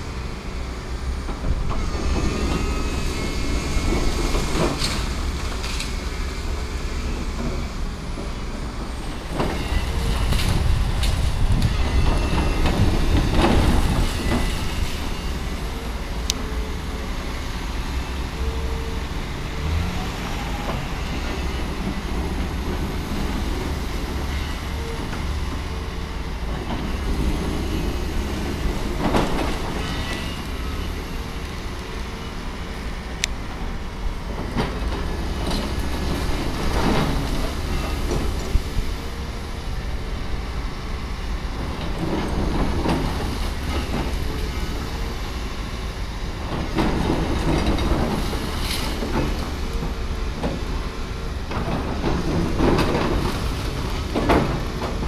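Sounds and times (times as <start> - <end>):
tracked excavator running: 0.0 - 55.0.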